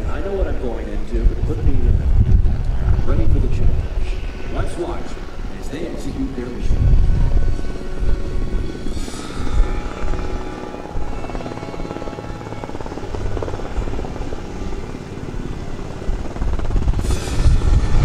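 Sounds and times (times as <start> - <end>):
helicopter rotor chop: 0.0 - 18.0
turbine engine whine: 0.0 - 18.0.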